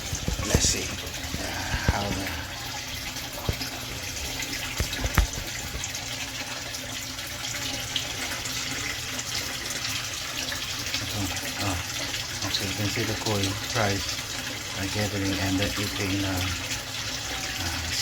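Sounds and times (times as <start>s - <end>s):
water splashing in a pond: 0.0s - 18.0s.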